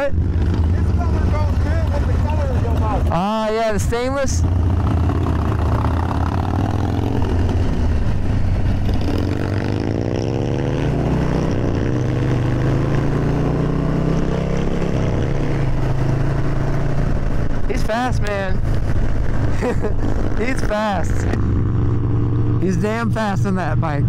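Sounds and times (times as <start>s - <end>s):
motorcycle engine accelerating: 0.0s - 24.0s
wind noise: 0.2s - 13.1s, 14.5s - 24.0s.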